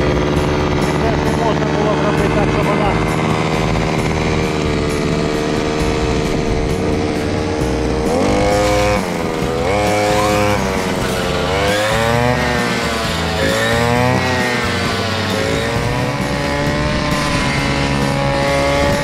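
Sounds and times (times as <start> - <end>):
engine revving: 0.0 - 19.0.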